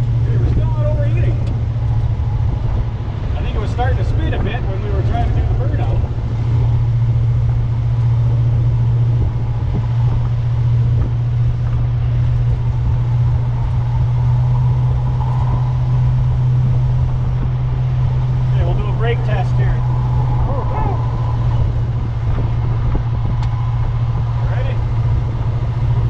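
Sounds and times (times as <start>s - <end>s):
car engine running evenly: 0.0s - 26.0s
road and wind noise: 0.0s - 26.0s.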